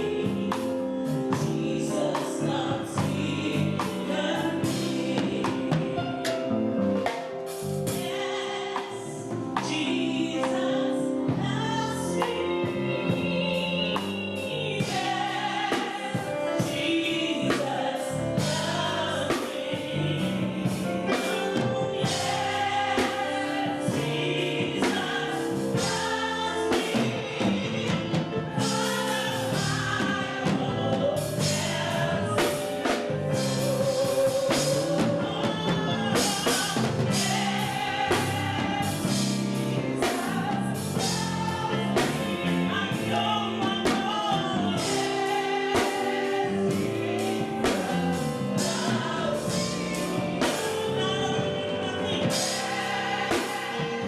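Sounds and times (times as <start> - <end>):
drum kit beat: 0.0 - 54.0
gospel singing with band: 0.0 - 54.0.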